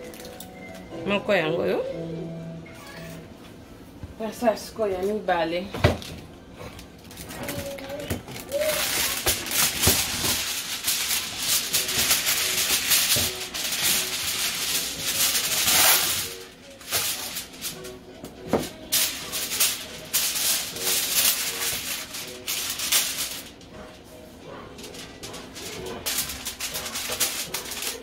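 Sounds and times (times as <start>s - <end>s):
aluminium foil crinkling: 0.0s - 0.8s, 6.0s - 28.0s.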